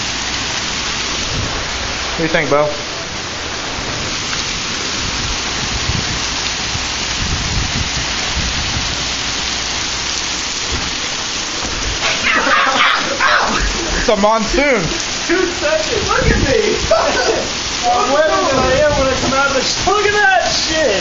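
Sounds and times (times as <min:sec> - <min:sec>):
heavy rain hiss: 0:00.0 - 0:21.0
thunder rumble: 0:00.0 - 0:21.0.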